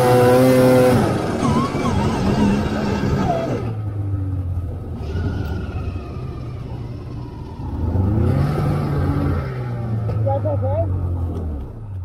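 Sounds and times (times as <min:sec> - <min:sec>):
snowmobile engine revving: 0:00.0 - 0:03.8, 0:04.9 - 0:11.7.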